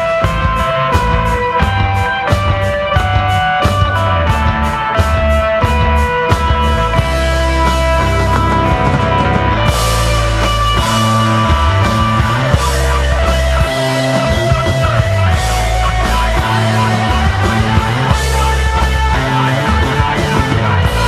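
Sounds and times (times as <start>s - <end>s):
bass line: 0.0s - 21.0s
drum kit with cymbals: 0.0s - 21.0s
electric guitar ringing notes: 0.0s - 21.0s.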